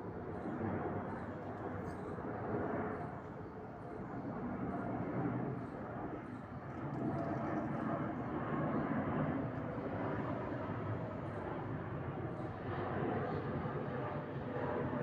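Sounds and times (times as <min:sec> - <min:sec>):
airplane engines taking off: 0:00.0 - 0:15.0.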